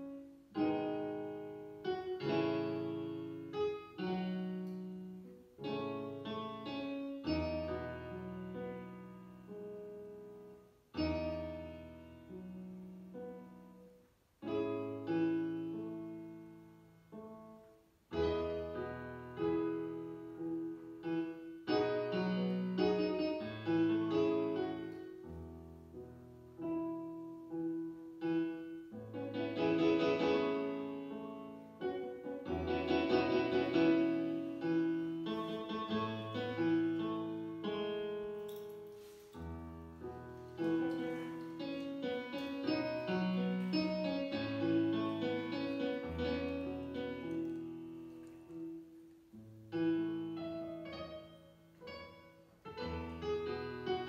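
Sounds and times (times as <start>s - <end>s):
solo piano playing: 0.0s - 54.0s.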